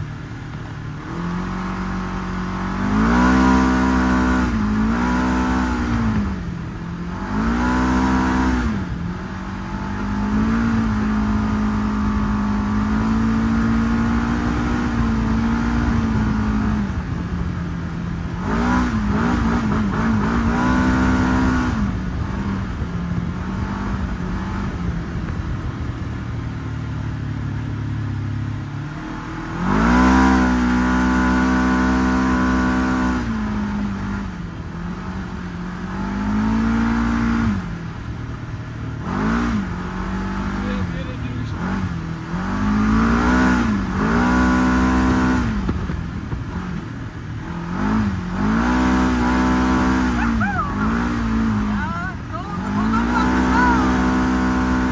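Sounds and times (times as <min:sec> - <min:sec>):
vehicle engine revving: 0:00.0 - 0:54.9.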